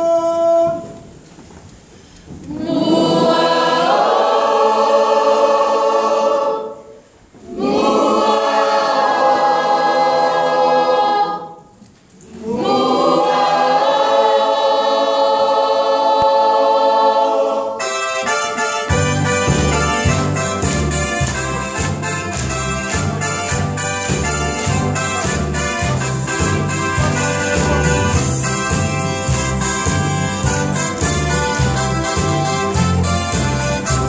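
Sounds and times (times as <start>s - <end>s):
choir singing a hymn: 2.5s - 30.3s.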